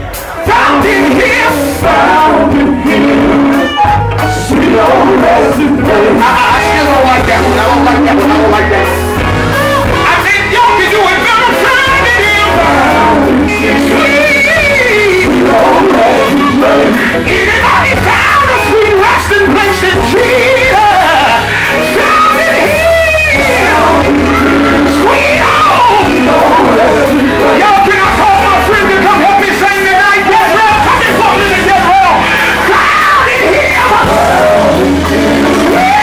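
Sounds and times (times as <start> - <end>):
band accompaniment: 0.0 - 36.0
male quartet singing gospel: 0.0 - 36.0
steady bass: 0.0 - 36.0.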